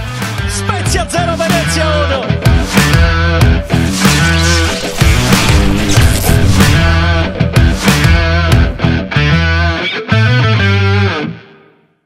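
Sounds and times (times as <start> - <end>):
rock music with electric guitar: 0.0 - 11.8.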